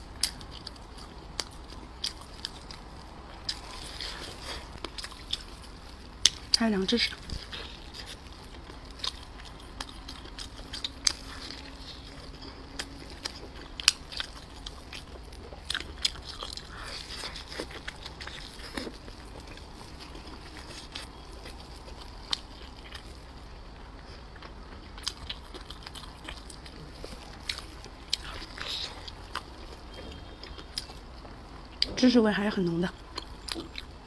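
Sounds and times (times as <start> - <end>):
biting and chewing: 0.0 - 32.0, 32.9 - 34.0.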